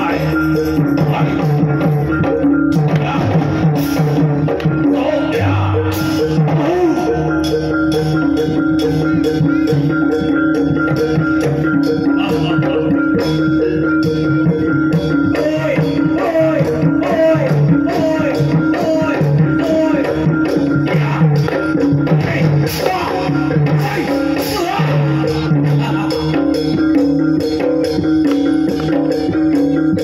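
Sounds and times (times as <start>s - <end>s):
drumming and percussion: 0.0s - 30.0s
held tone: 0.0s - 30.0s.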